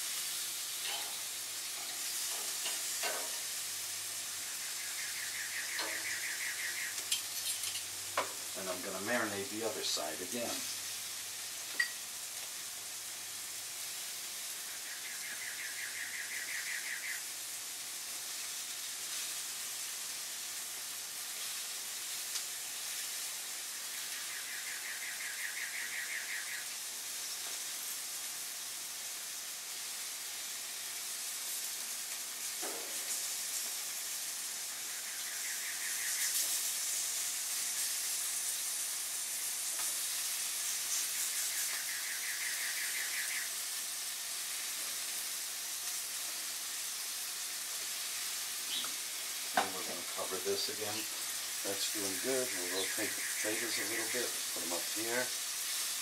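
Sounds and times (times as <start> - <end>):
chicken sizzling on a grill: 0.0 - 56.0.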